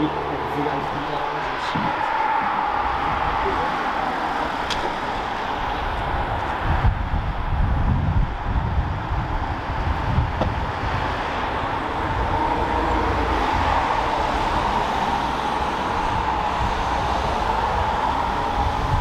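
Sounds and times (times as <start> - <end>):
road traffic rushing: 0.0 - 19.0.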